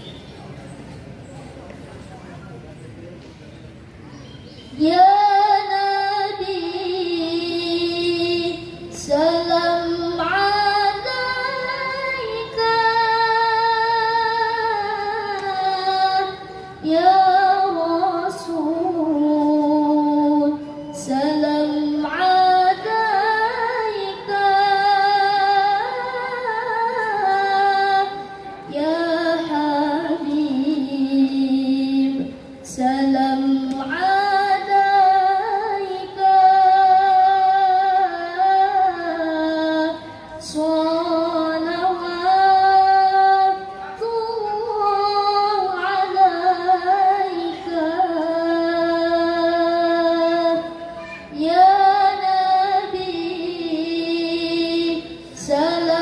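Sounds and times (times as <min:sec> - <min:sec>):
woman chanting melodically: 0:04.6 - 0:56.0.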